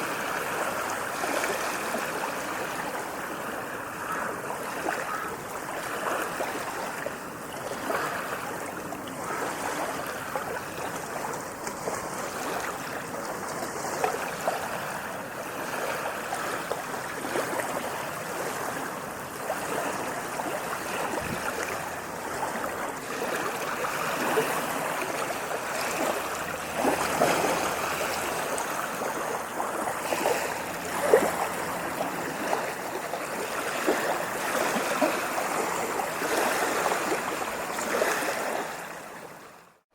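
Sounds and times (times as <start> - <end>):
ocean waves washing and splashing: 0.0 - 39.8.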